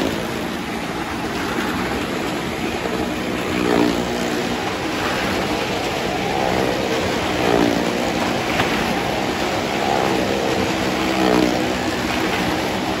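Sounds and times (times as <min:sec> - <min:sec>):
car and motorcycle engines revving: 0:00.0 - 0:13.0.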